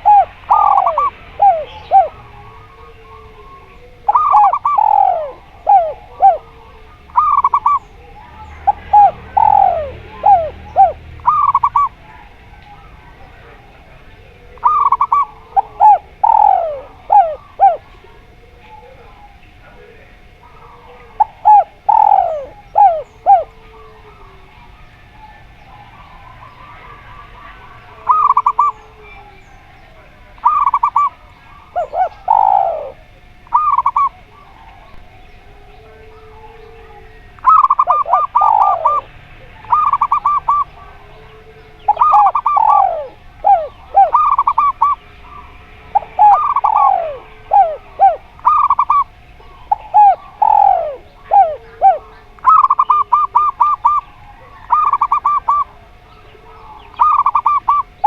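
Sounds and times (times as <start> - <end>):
doves cooing: 0.0 - 58.0.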